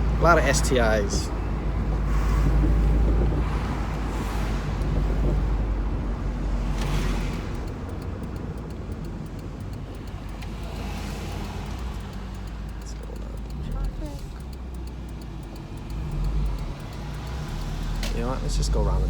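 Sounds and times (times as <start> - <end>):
car engine pulling hard: 0.0 - 19.0
light rapid ticking: 0.0 - 19.0.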